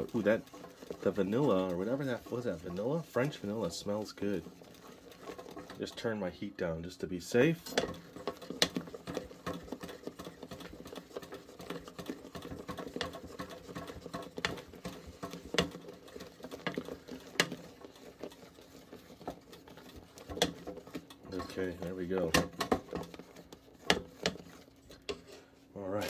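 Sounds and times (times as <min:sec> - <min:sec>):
spoon stirring sticky marshmallow: 0:00.0 - 0:26.0.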